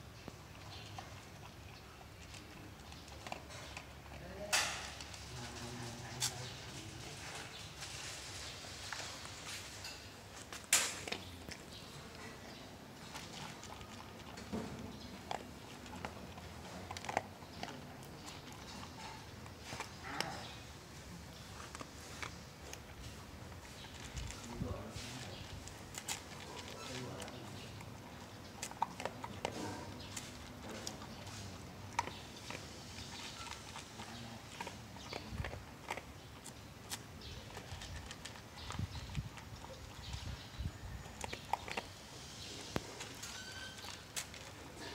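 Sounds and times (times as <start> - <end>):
dog crunching food: 0.0 - 6.8, 10.2 - 44.9.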